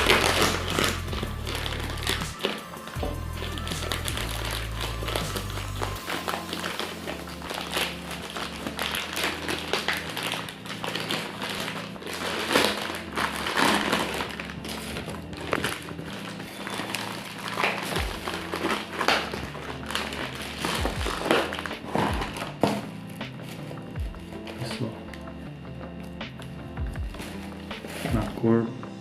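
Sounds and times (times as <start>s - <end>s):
packaging crinkling and rustling: 0.0s - 25.4s, 27.1s - 28.4s.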